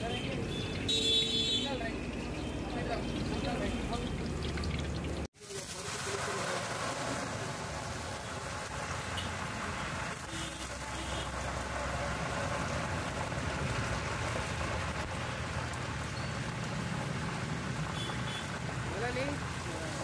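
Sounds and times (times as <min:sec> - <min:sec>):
motorbike engines: 0:00.0 - 0:05.3, 0:06.1 - 0:20.0
water boiling hard: 0:01.8 - 0:20.0.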